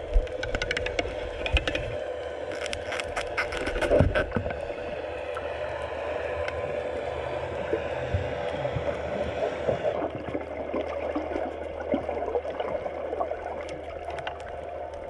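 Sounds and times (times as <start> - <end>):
muffled underwater rumble: 0.0 - 15.0
steady hum: 0.0 - 15.0.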